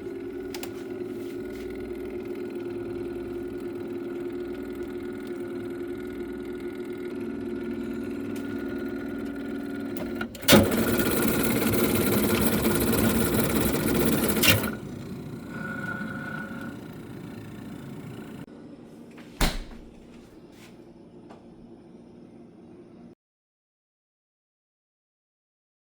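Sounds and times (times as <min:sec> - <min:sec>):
freezer humming: 0:00.0 - 0:23.1.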